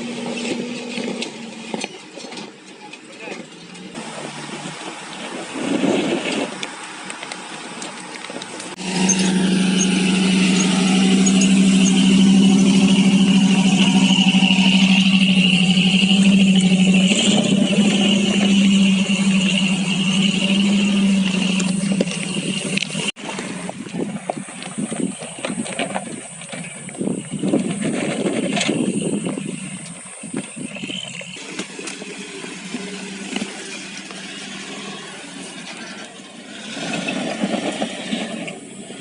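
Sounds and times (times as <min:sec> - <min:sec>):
suv engine running: 0:00.0 - 0:39.0.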